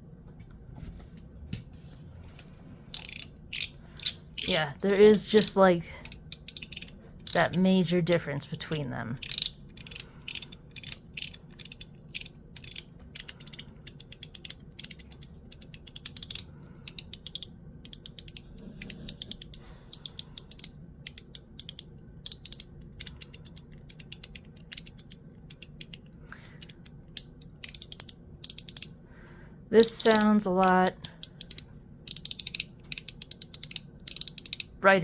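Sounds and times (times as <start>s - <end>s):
fidget slider clicking: 2.9s - 29.0s, 29.8s - 34.7s.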